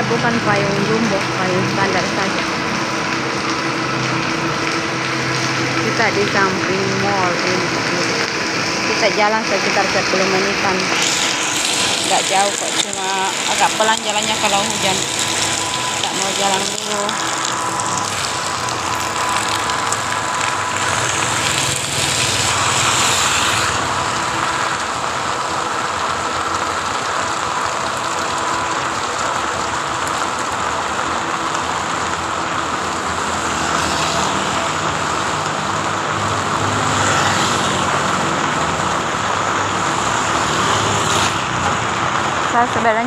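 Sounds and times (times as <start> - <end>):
heavy rain on umbrella: 0.0 - 43.0
traffic on wet road: 0.0 - 43.0.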